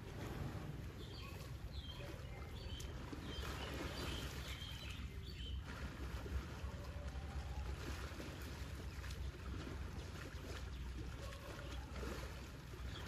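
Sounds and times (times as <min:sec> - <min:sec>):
muddy water sloshing: 0:00.0 - 0:13.0.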